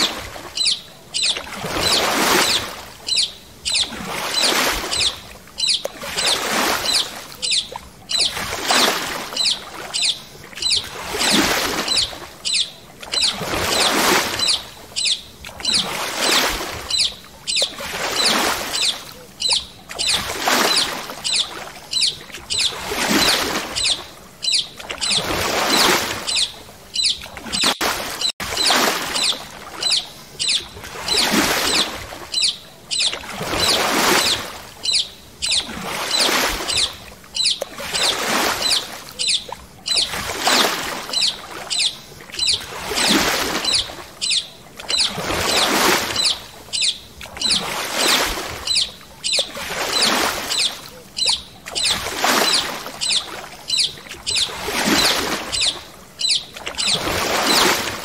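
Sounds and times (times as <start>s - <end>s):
paddle strokes splashing in water: 0.0s - 58.0s.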